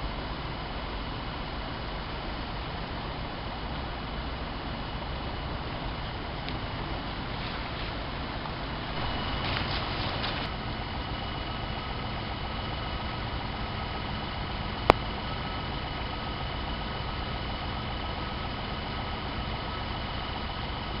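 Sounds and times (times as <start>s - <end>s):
faint high whine: 0.0s - 21.0s
low mechanical hum: 0.0s - 21.0s.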